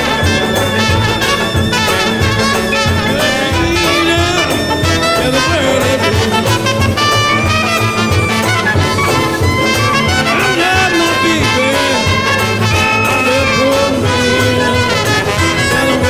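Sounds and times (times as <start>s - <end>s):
brass horns with sliding notes: 0.0s - 16.0s
rhythm section: 0.0s - 16.0s.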